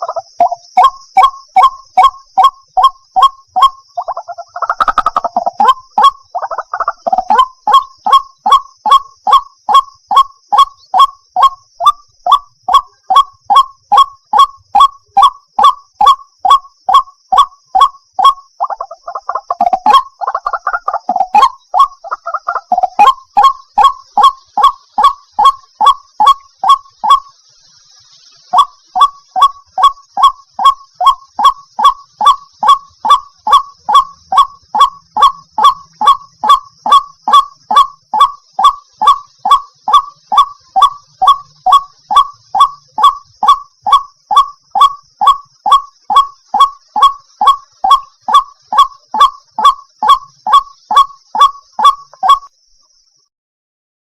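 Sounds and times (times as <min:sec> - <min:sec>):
bird harsh repeated call: 0:00.0 - 0:53.3.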